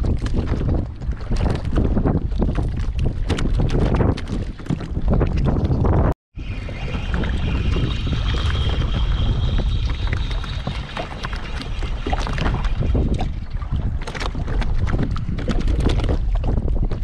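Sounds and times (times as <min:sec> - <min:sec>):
waves slapping plastic kayak hull: 0:00.0 - 0:05.8, 0:06.8 - 0:17.0
wind buffeting microphone: 0:00.0 - 0:17.0.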